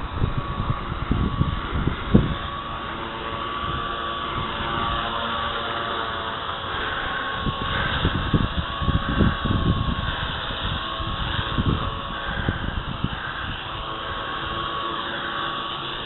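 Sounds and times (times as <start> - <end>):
toy helicopter motor whining: 0.0 - 16.0
wind buffeting microphone: 0.0 - 16.0.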